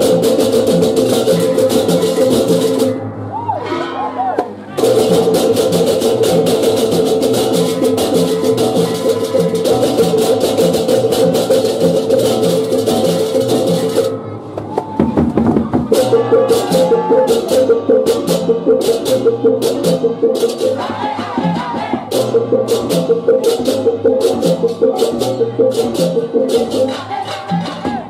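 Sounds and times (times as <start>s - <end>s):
drum and gong beat: 0.0s - 3.0s, 4.8s - 14.1s, 14.8s - 28.0s.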